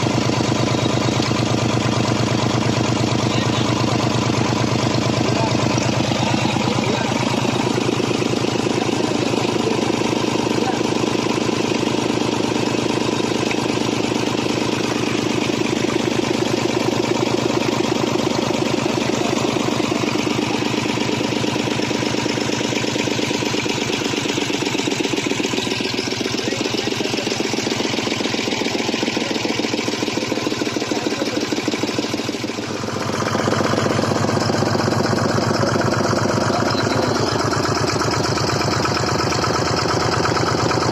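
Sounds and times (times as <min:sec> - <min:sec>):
diesel engine knocking: 0:00.0 - 0:40.9.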